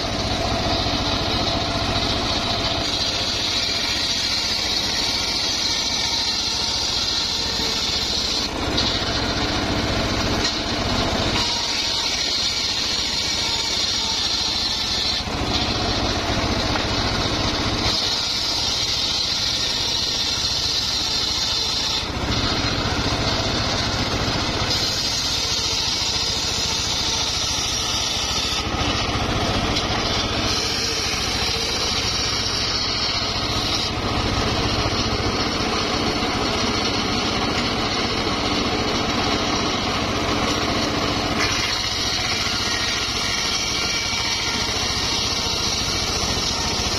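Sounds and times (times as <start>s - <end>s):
circular saw ripping wood: 0.0s - 46.9s.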